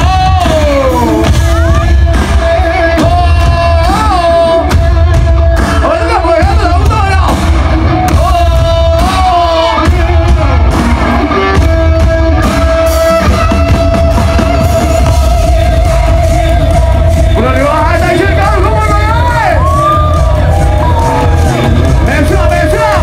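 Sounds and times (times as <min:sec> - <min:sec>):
heavy bass beat: 0:00.0 - 0:23.0
person singing: 0:00.0 - 0:23.0.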